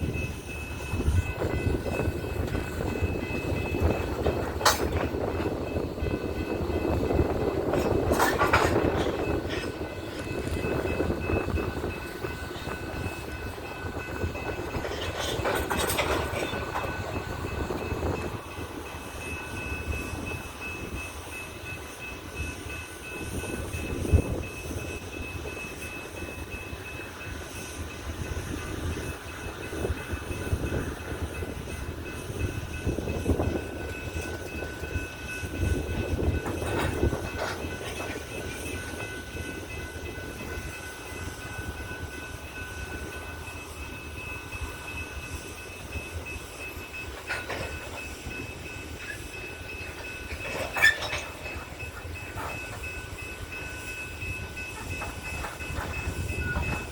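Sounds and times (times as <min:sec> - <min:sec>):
wheels clacking over rail joints: 0:00.0 - 0:21.8, 0:22.4 - 0:56.9
train cars rumbling on rails: 0:00.0 - 0:56.9.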